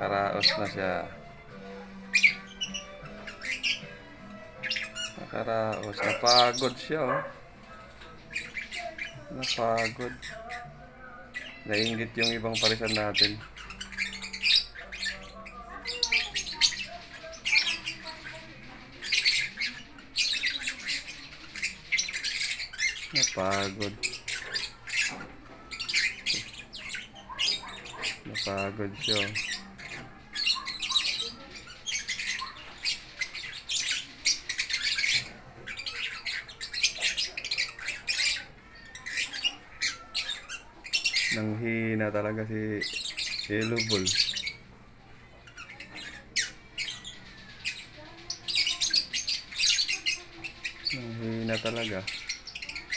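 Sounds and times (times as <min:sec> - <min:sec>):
birds squawking and chirping: 0:00.0 - 0:52.9.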